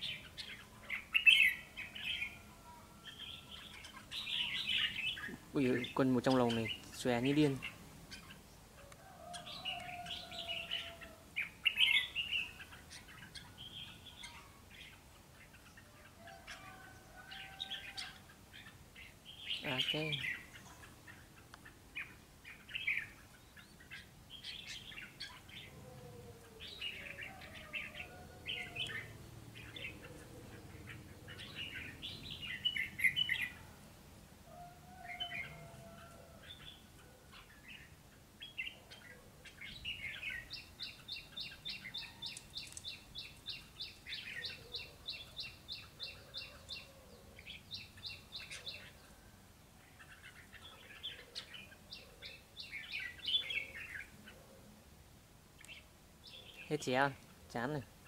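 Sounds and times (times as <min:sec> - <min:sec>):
birds chirping and warbling: 0:00.0 - 0:58.0.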